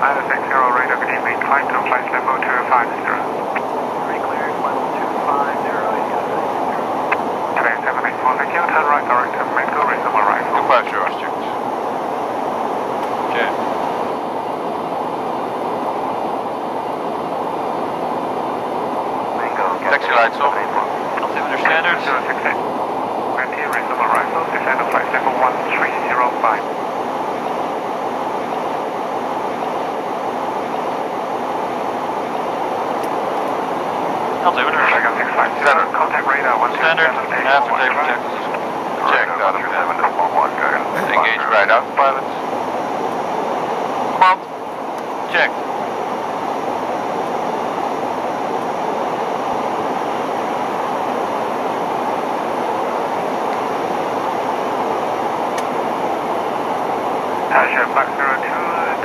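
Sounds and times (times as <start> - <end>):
airflow rushing over cockpit: 0.0 - 59.0
jet engines: 0.0 - 59.0.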